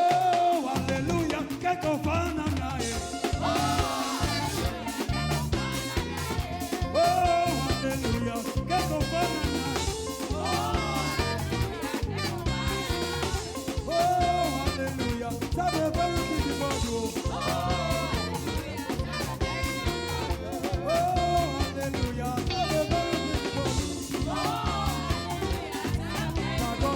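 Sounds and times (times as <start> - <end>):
gospel band playing dance groove: 0.0 - 26.9
steady drum beat: 0.0 - 26.9.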